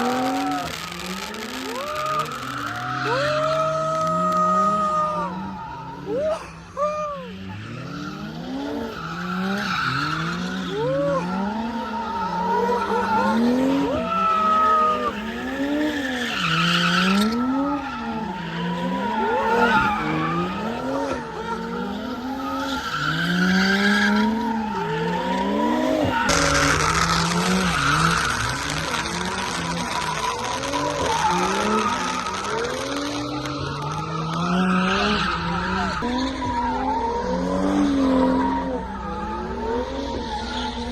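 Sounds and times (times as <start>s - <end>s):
car engine revving: 0.0s - 40.9s
tyres squealing and skidding: 0.0s - 40.9s.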